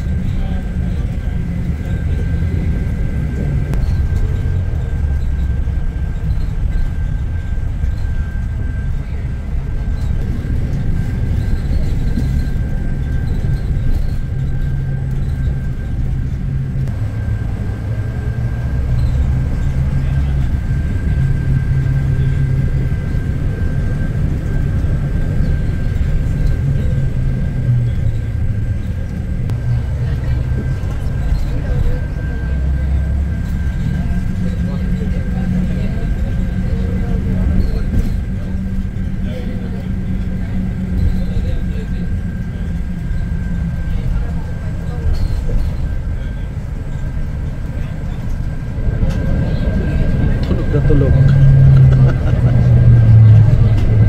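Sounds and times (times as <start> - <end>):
low engine rumble: 0.0 - 54.0.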